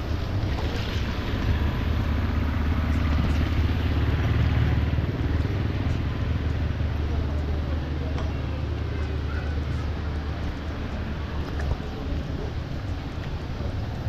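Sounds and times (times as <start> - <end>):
continuous low rumble: 0.0 - 14.0.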